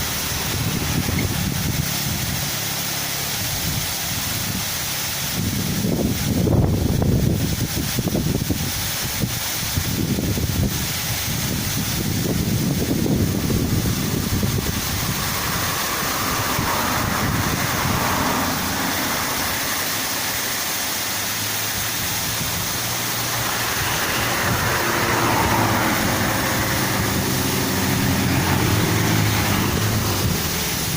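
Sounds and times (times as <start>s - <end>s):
vehicle engine running: 0.0s - 7.7s, 10.3s - 30.9s
waterfall rushing: 0.0s - 30.9s.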